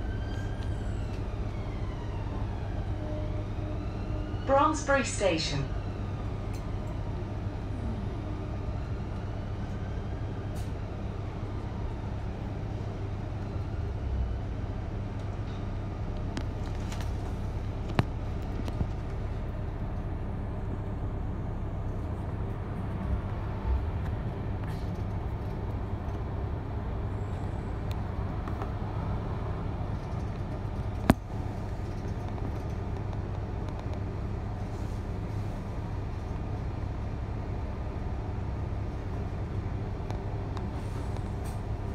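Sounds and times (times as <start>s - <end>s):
bus engine hum and road noise: 0.0s - 41.9s.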